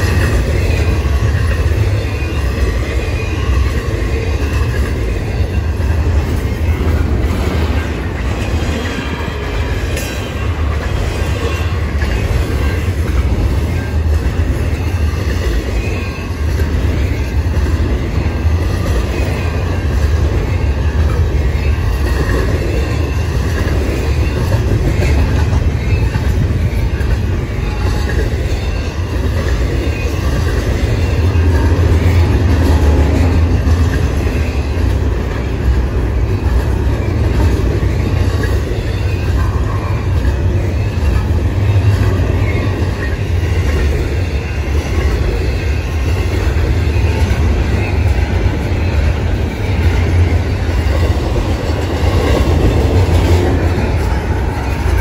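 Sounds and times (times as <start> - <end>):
train cars rumbling past: 0.0 - 55.0.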